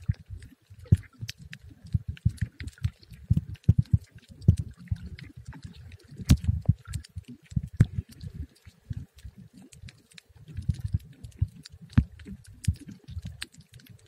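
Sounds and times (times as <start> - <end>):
sharp underwater clicks: 0.0 - 14.0.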